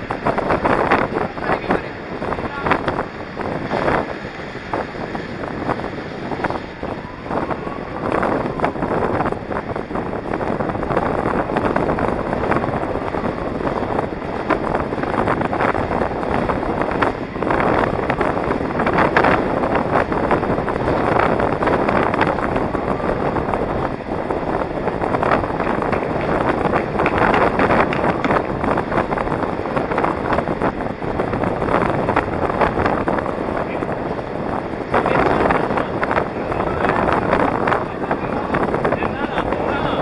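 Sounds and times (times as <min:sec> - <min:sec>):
skate wheels rolling on asphalt: 0:00.0 - 0:40.0
wind rushing over microphone: 0:00.0 - 0:40.0.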